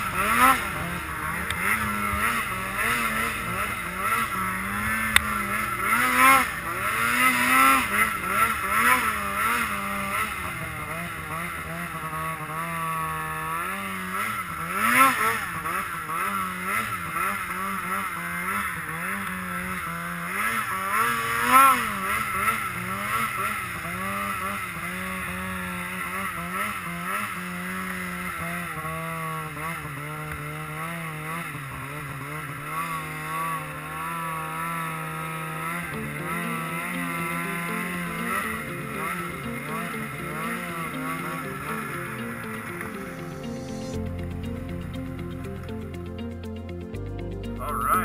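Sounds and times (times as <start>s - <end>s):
snowmobile engine revving: 0.0s - 46.4s, 47.0s - 48.0s.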